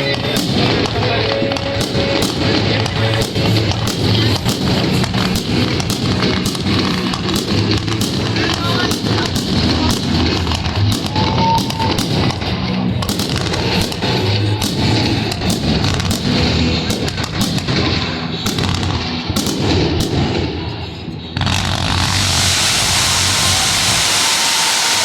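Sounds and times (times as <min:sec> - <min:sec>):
fireworks exploding and crackling: 0:00.0 - 0:25.0
music: 0:00.0 - 0:25.0.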